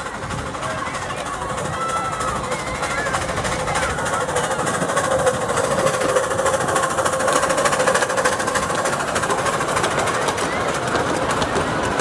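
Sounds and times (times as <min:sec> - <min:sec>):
steam locomotive chattering past: 0:00.0 - 0:12.0.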